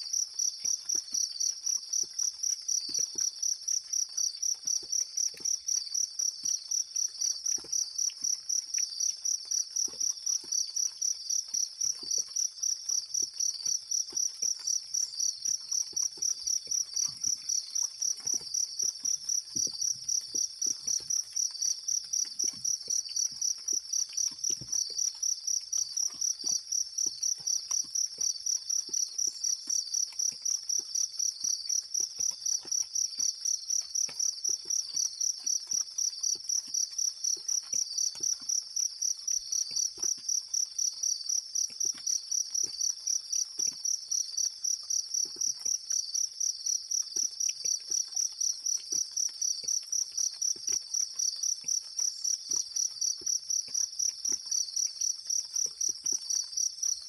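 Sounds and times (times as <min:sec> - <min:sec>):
faint ticks: 0:00.0 - 0:57.0
insect chirping: 0:00.0 - 0:57.0.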